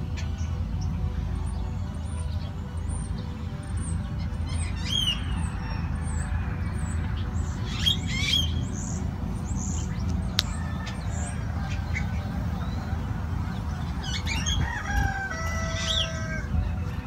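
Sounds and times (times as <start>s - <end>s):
birds chirping and squawking: 0.0s - 17.0s
steady low rumble: 0.0s - 17.0s.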